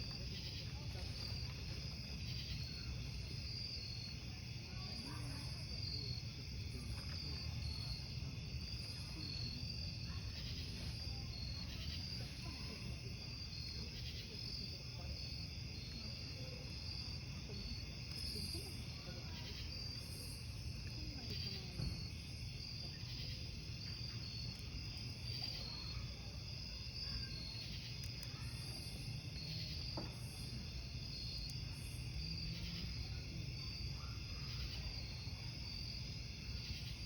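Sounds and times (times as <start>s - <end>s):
campfire burning: 0.0s - 32.2s
crickets chirping: 0.0s - 37.0s.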